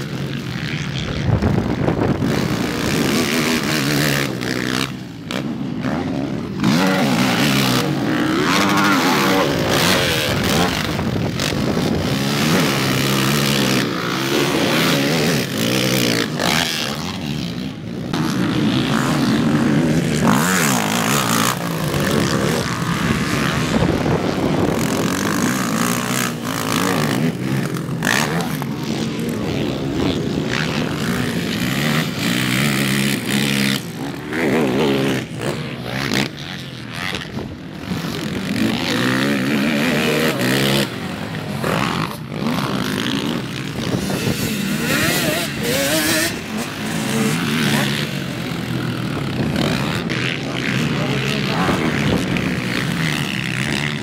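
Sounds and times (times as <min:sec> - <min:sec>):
quad bike engines revving: 0:00.0 - 0:54.0.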